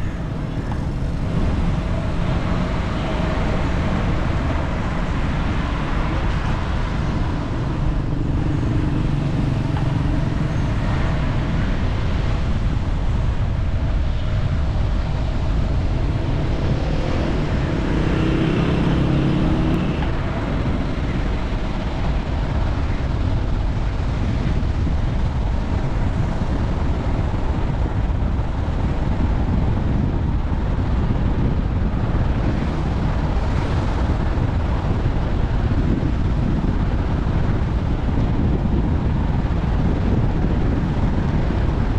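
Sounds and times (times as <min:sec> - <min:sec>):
vehicle road and wind rumble: 0:00.0 - 0:41.9.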